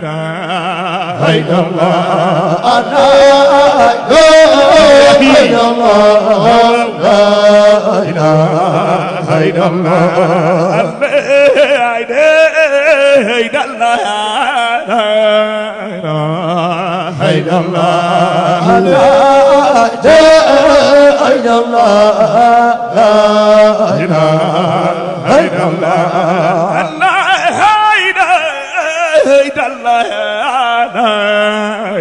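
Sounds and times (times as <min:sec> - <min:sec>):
man chanting into a microphone: 0:00.0 - 0:32.0.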